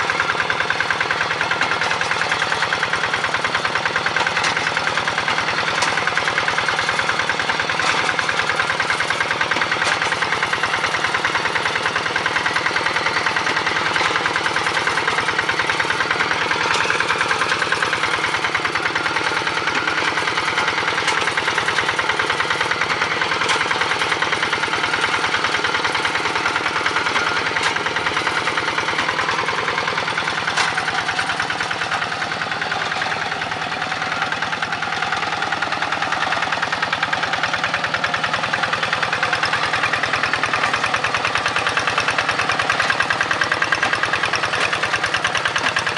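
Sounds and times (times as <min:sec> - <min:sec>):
tractor engine chugging: 0:00.0 - 0:45.9.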